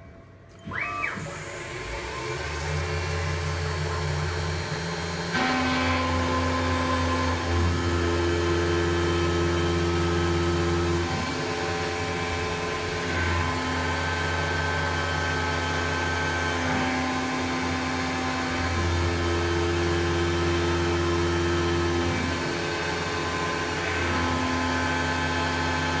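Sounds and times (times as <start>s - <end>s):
milling machine motors whining: 0.5s - 26.0s.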